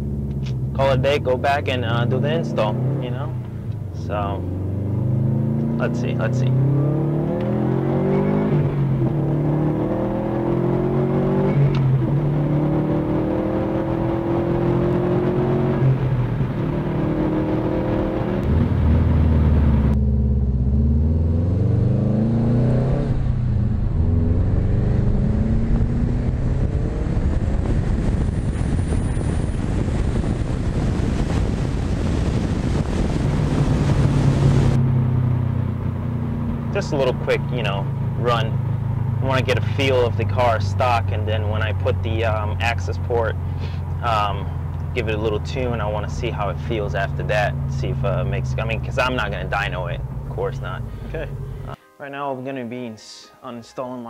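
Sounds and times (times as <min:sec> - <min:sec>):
car engine accelerating: 0:00.0 - 0:51.8.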